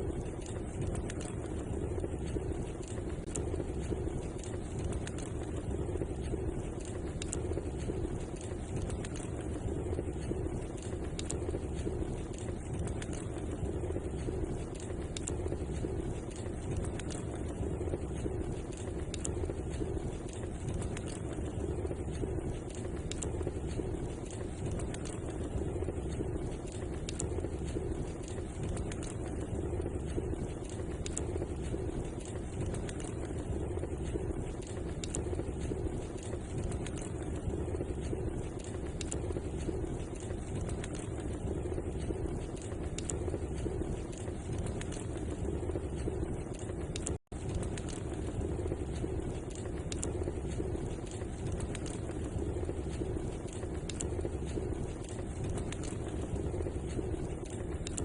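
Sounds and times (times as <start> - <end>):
fire crackles and pops: 0.0 - 58.0
wood fire rumbling: 0.0 - 58.0.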